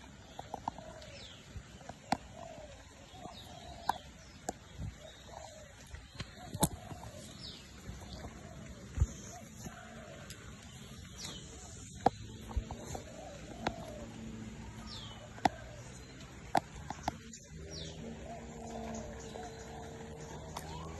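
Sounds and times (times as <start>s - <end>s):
birds chirping: 0.0s - 20.9s.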